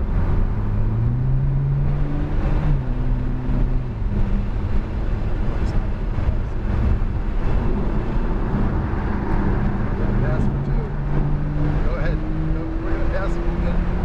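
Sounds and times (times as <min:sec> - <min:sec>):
car engine pulling under throttle: 0:00.0 - 0:14.0
road and wind noise: 0:00.0 - 0:14.0.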